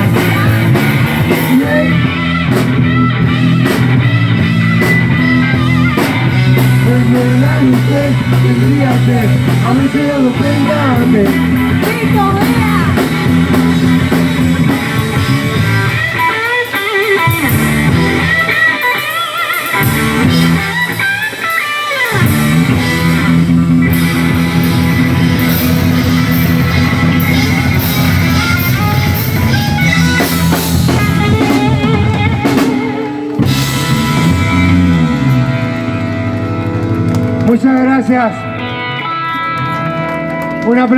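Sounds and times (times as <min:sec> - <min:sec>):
lead guitar bending: 0:00.0 - 0:40.9
rock band playing: 0:00.0 - 0:40.9.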